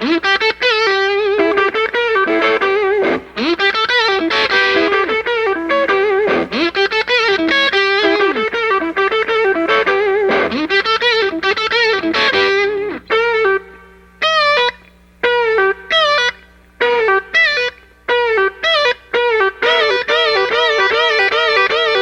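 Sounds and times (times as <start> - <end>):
amplifier hum: 0.0 - 22.0
electric guitar solo: 0.0 - 22.0.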